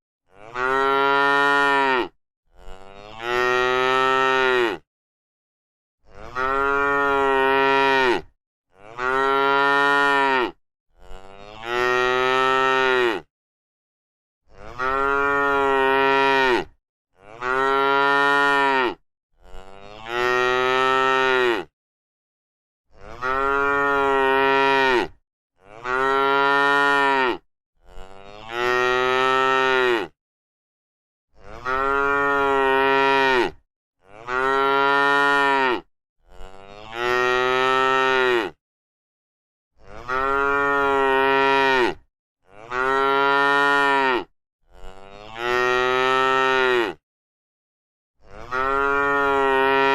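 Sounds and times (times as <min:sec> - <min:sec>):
cow mooing: 0:00.3 - 0:04.8, 0:06.1 - 0:13.3, 0:14.5 - 0:21.7, 0:22.9 - 0:30.2, 0:31.4 - 0:38.6, 0:39.8 - 0:47.0, 0:48.2 - 0:49.9.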